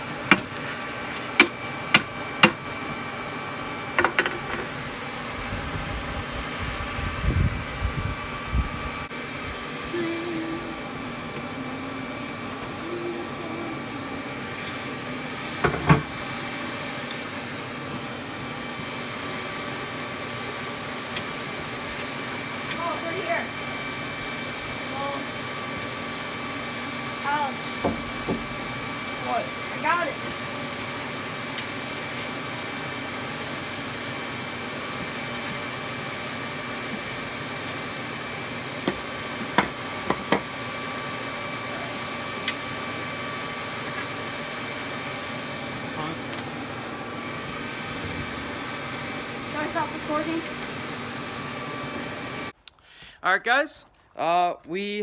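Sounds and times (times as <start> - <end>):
forge air blower running: 0.0 - 52.6.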